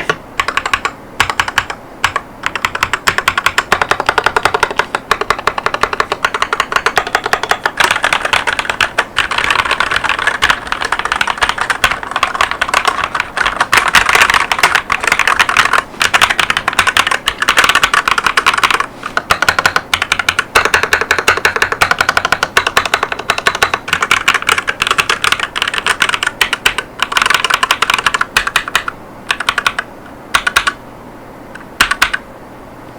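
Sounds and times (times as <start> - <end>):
fast mechanical keyboard typing: 0.0 - 30.8, 31.8 - 32.2.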